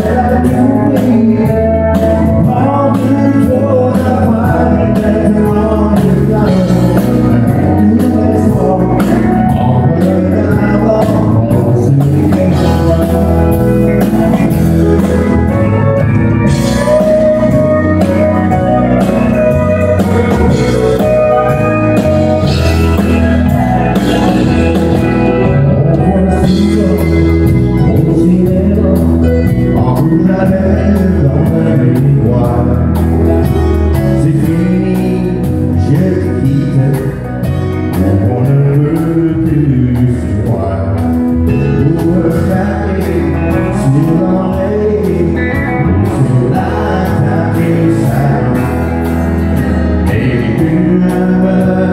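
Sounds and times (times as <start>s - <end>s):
live country band playing: 0.0s - 51.9s
man singing: 0.0s - 51.9s.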